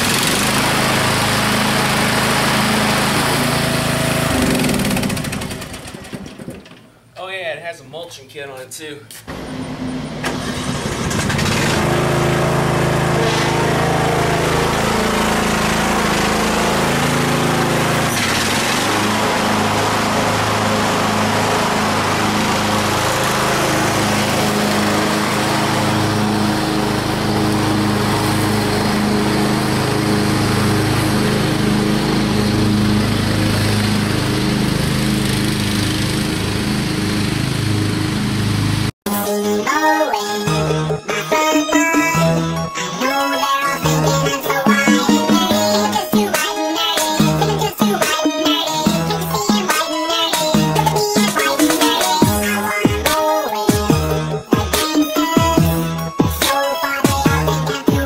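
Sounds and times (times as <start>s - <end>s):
riding mower engine passing: 0.0s - 7.0s, 9.2s - 39.0s, 41.8s - 58.0s.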